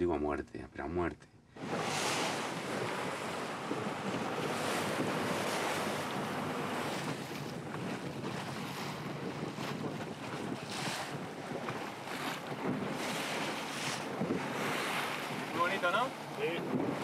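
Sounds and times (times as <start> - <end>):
waves splashing past boat: 1.4 - 17.0
wind buffeting microphone: 1.6 - 17.0.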